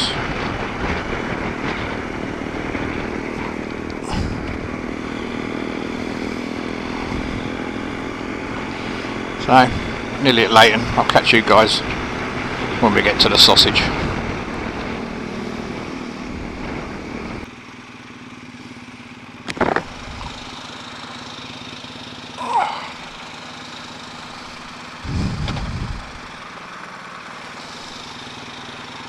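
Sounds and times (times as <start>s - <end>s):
riding wind noise: 0.0s - 17.5s, 19.5s - 29.0s
motorcycle engine running: 0.0s - 29.0s.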